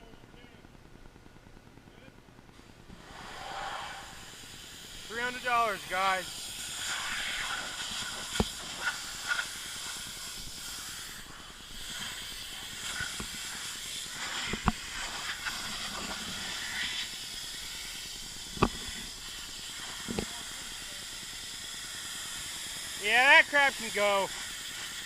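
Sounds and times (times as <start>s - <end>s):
pressure washer spray hissing: 2.9s - 25.0s.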